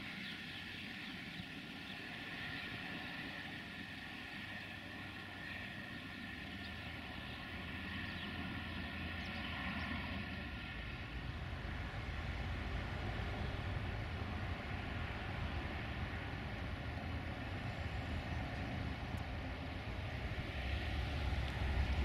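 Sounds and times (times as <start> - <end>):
distant engine drone: 0.0 - 22.0.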